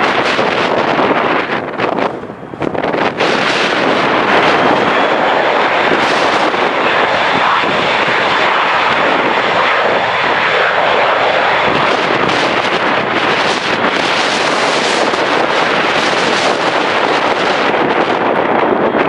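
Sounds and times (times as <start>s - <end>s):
airplane engines running: 0.0s - 19.0s
wind on microphone: 0.0s - 19.0s.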